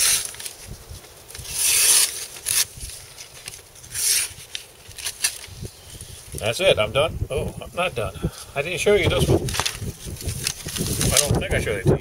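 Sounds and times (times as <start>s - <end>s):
stiff paper wrapping rustling: 0.0s - 6.4s, 8.3s - 12.0s.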